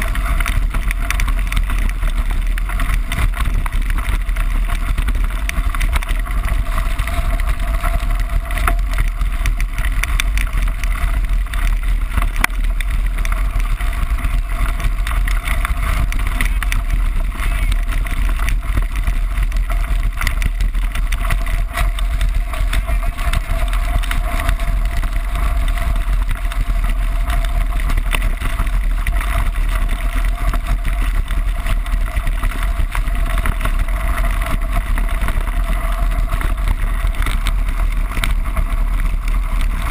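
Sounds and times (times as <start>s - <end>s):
bike rattling: 0.0s - 39.9s
tyres crunching over gravel: 0.0s - 39.9s
wind buffeting microphone: 0.0s - 39.9s.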